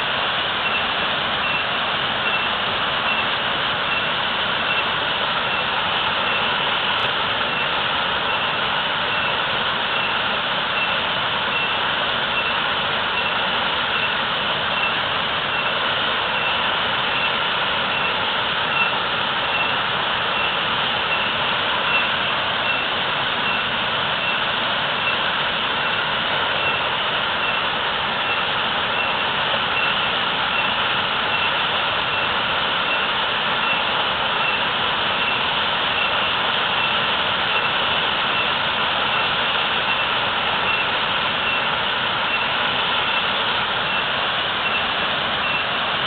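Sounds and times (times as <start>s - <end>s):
waterfall pouring heavily: 0.0s - 46.0s.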